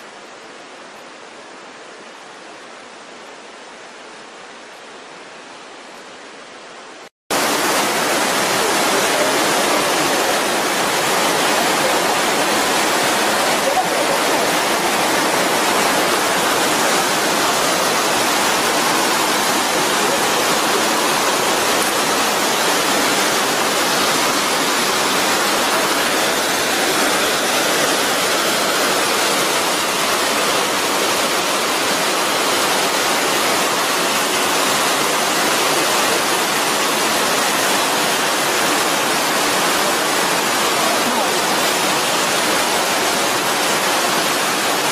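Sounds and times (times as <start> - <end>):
water rushing over rocks: 0.0 - 44.9.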